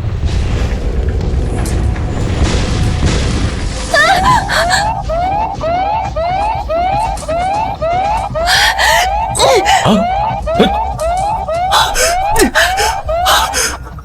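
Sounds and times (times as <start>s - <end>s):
heavy low rumble: 0.0s - 14.0s
cockpit warning alarm whooping: 2.4s - 14.0s.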